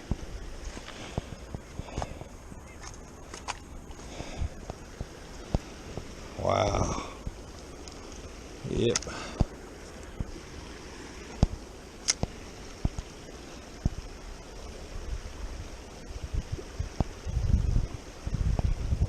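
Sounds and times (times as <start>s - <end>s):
water rushing at a spillway: 0.0s - 19.0s
wind buffeting microphone: 0.0s - 19.0s.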